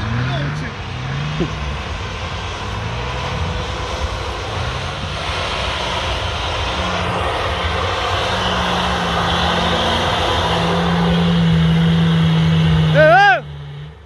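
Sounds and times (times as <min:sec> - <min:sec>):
motocross bike engines: 0:00.0 - 0:14.0.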